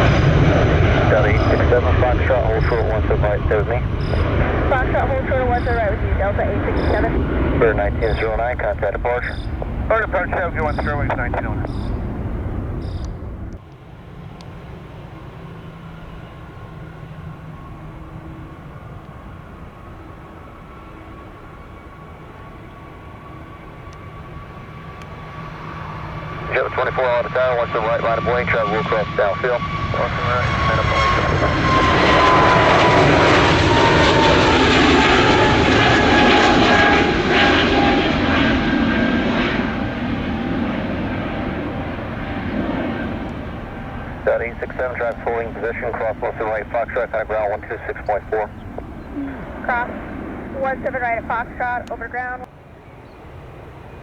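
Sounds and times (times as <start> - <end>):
distant jet engines rumbling: 0.0 - 54.0
faint high whine: 0.9 - 54.0.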